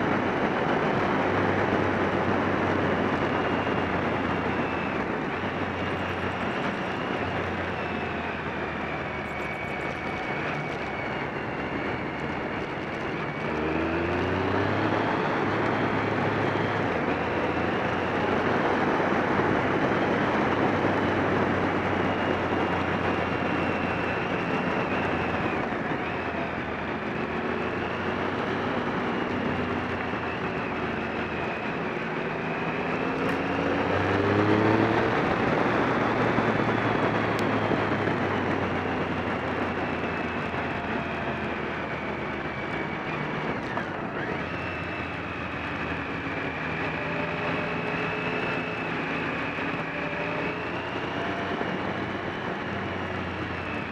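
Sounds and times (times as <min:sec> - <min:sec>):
motorcycle engine: 0:00.0 - 0:53.9
wind rush on microphone: 0:00.0 - 0:53.9.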